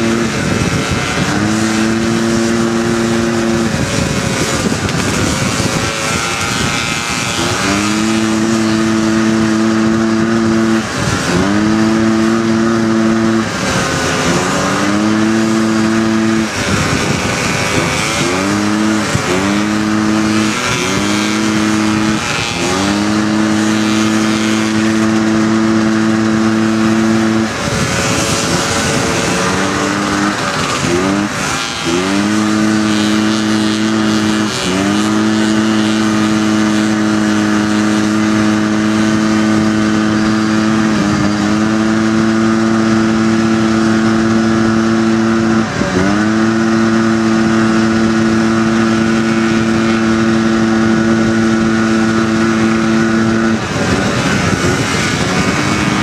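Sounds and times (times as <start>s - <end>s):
buggy engine revving hard: 0.0s - 56.0s
steady rushing noise: 0.0s - 56.0s.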